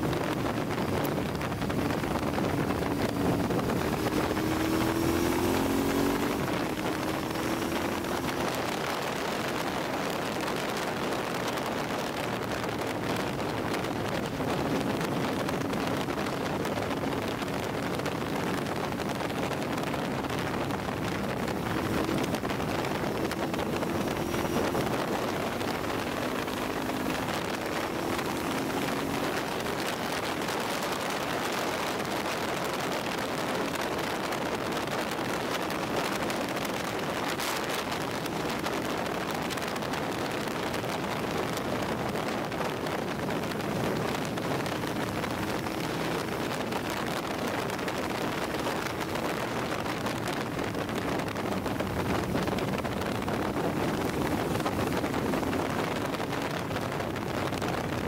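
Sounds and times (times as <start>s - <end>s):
motorcycle engine hum: 0.0s - 58.0s
wind rush on microphone: 0.0s - 58.0s.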